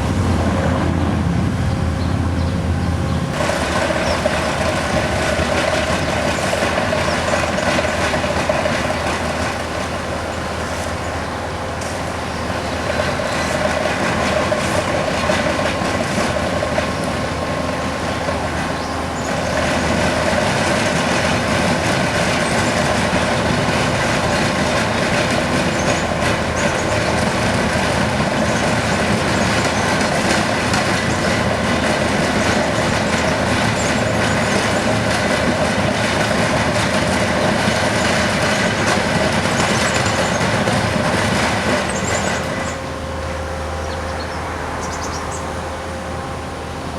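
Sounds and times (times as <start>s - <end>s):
diesel engines running: 0.0s - 46.9s.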